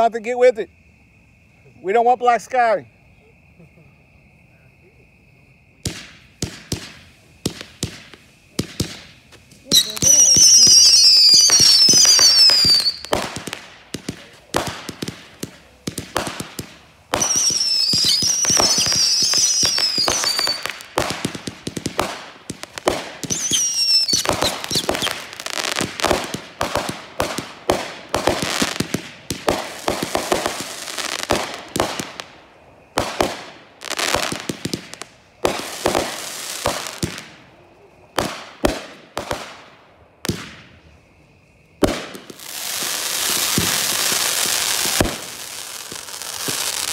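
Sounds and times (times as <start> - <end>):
firework bangs and crackling: 5.8 - 41.0, 41.8 - 46.9
falling firework whistles: 5.8 - 41.1, 41.8 - 46.9.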